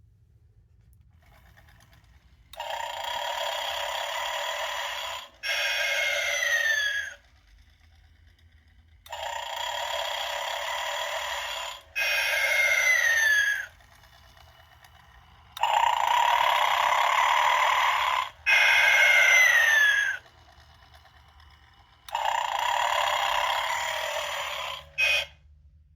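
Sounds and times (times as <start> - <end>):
toy snoring: 2.5 - 25.4.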